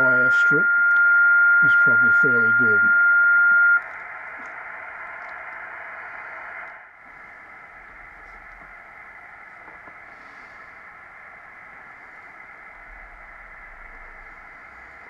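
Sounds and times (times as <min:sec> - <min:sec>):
radio receiver hiss: 0:00.0 - 0:15.0.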